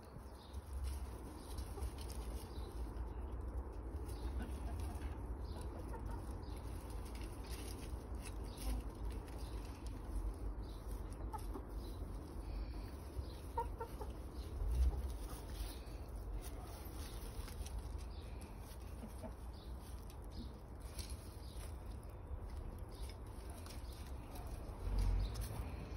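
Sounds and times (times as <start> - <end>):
steady low rumble: 0.0 - 25.9
hens clucking: 0.4 - 25.9.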